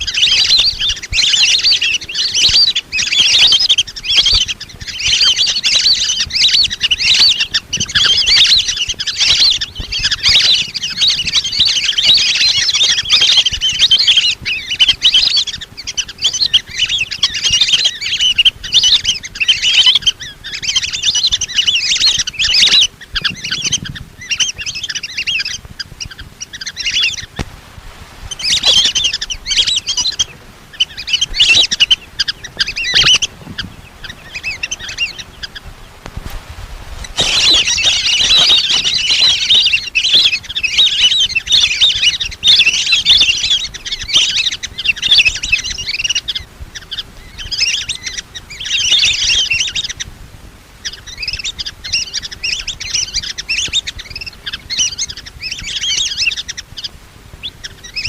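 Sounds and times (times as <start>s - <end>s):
ducks whistling calls: 0.0s - 50.1s, 50.7s - 58.0s.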